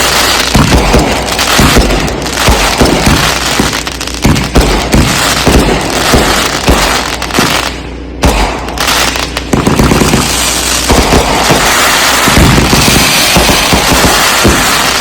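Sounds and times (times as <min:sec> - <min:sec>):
fireworks booms and bangs: 0:00.0 - 0:15.0
fireworks crackling: 0:00.0 - 0:15.0.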